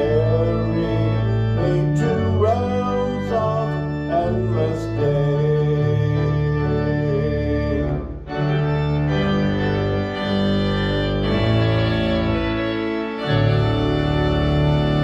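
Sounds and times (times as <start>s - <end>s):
church organ playing a hymn: 0.0s - 15.0s.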